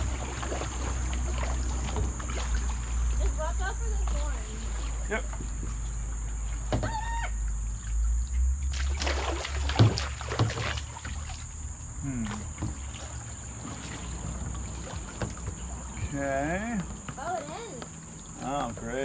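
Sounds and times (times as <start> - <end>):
kayak paddle splashing in water: 0.0 - 19.0.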